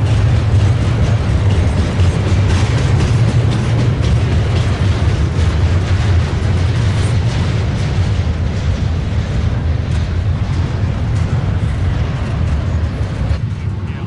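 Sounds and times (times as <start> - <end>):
rattling clicks of rails: 0.0 - 13.9
freight train rumbling past: 0.0 - 14.0.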